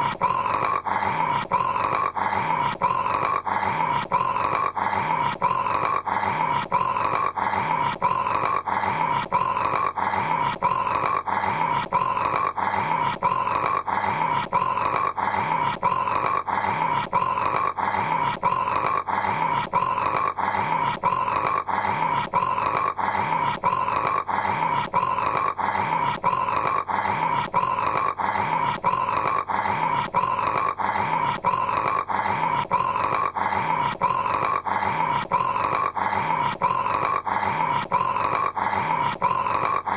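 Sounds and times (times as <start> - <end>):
man snoring: 0.0 - 39.9.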